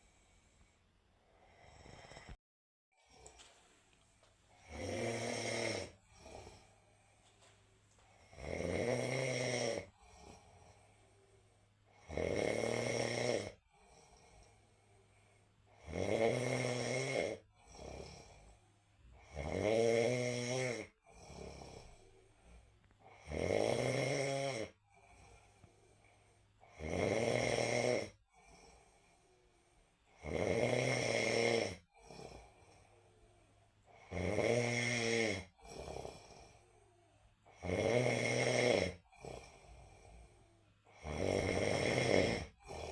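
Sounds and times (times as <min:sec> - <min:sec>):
quiet breathing: 0:00.0 - 0:02.4, 0:03.0 - 0:19.5, 0:20.4 - 0:23.4, 0:24.2 - 0:26.8, 0:27.6 - 0:30.4, 0:31.7 - 0:42.9
person snoring: 0:01.2 - 0:02.4, 0:04.5 - 0:07.2, 0:08.0 - 0:42.9.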